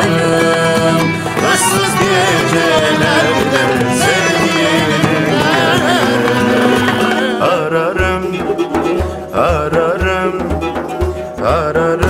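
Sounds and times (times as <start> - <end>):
instrumental accompaniment: 0.0 - 12.0
ornamented vocal melody: 0.0 - 12.0.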